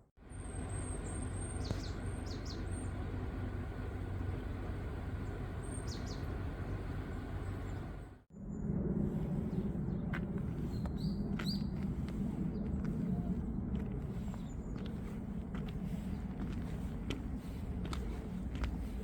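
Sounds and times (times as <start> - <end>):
low outdoor rumble: 0.0 - 19.0
small birds chirping: 0.3 - 8.2, 9.4 - 19.0.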